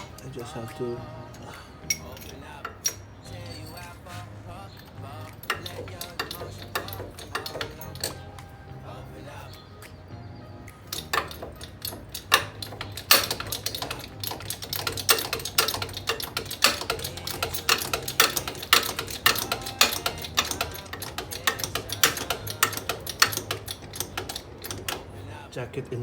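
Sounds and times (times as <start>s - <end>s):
sharp metallic clicks from tools: 0.0s - 4.1s, 4.7s - 8.5s, 10.8s - 25.2s.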